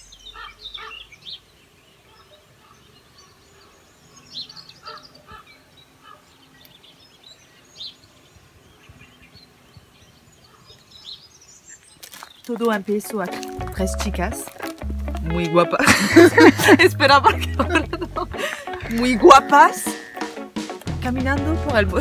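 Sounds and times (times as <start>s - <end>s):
birds chirping and calling: 0.0s - 20.4s.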